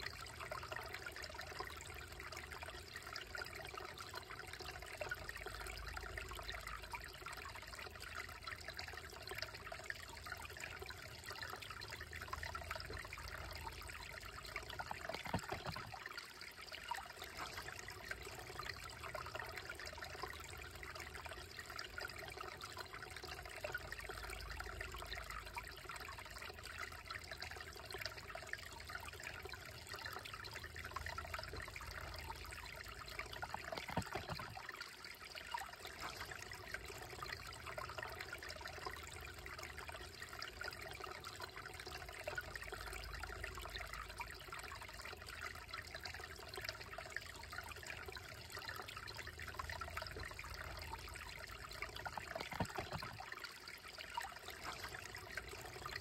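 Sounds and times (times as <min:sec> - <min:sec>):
creek trickling over rocks: 0:00.0 - 0:56.0.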